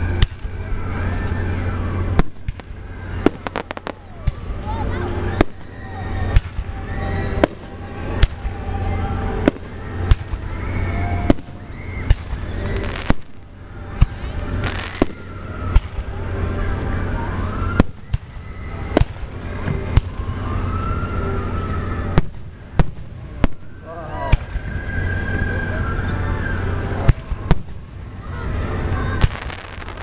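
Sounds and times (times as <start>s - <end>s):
crowd voices: 0.0s - 30.0s
fireworks bangs: 0.0s - 30.0s
steady rumble: 0.0s - 30.0s.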